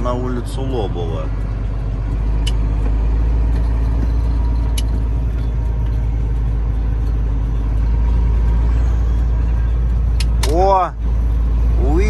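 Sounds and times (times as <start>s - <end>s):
diesel truck engine droning: 0.0s - 12.0s
road noise: 0.0s - 12.0s.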